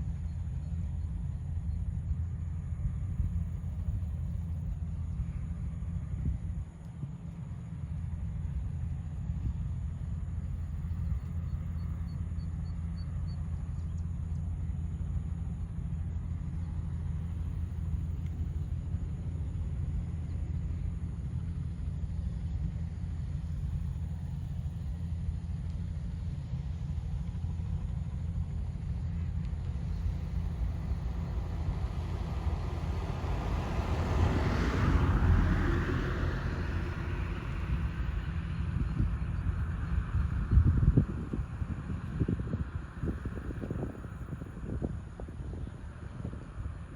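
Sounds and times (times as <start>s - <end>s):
helicopter rumbling: 0.1s - 46.9s.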